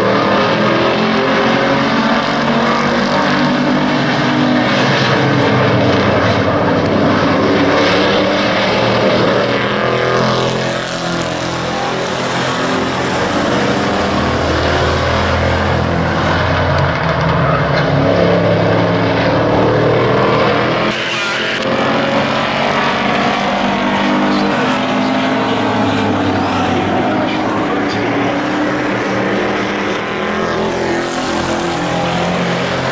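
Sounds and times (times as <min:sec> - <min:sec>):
racing truck engines: 0:00.0 - 0:32.9.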